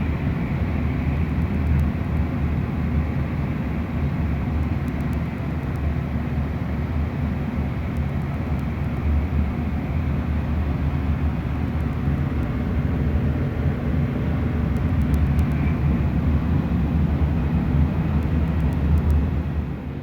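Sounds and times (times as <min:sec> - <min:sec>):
diesel locomotive engine rumbling: 0:00.0 - 0:20.0.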